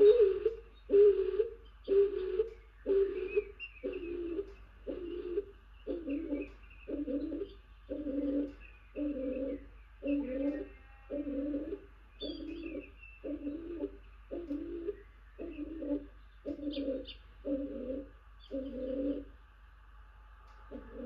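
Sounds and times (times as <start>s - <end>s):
dove cooing: 0.0s - 19.3s, 20.7s - 21.0s.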